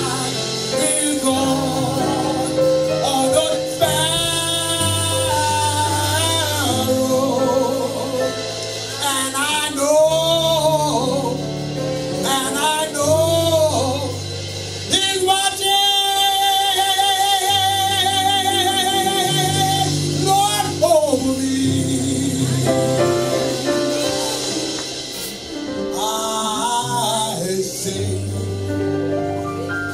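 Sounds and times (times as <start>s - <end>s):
man singing gospel into microphone: 0.0s - 29.4s.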